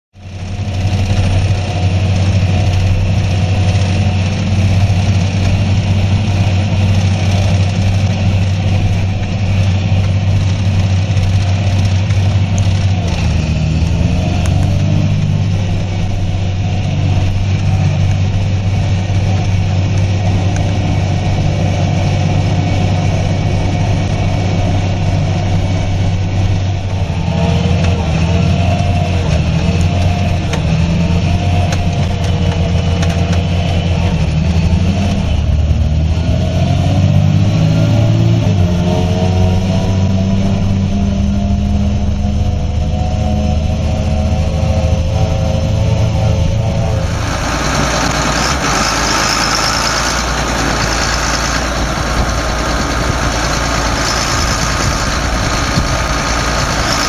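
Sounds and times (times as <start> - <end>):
tractor diesel engine droning: 0.2 - 57.0.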